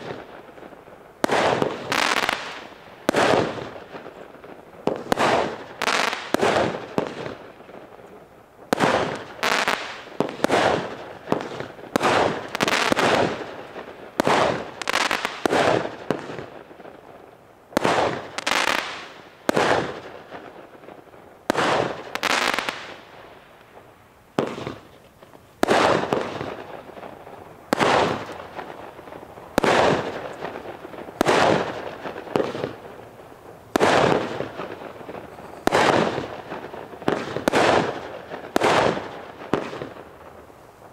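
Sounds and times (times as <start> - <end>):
fireworks banging: 0.0 - 8.0, 8.6 - 17.0, 17.8 - 40.9.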